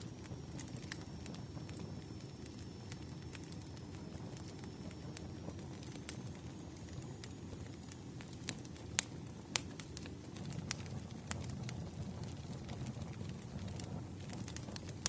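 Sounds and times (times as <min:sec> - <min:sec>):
crackling campfire: 0:00.0 - 0:15.0.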